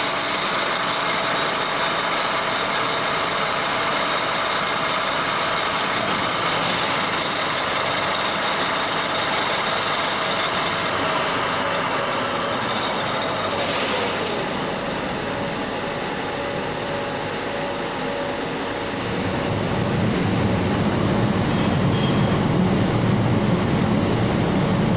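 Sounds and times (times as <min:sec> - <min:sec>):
deeper machine hum: 0:00.0 - 0:24.9
metal lathe whirring: 0:00.0 - 0:24.9.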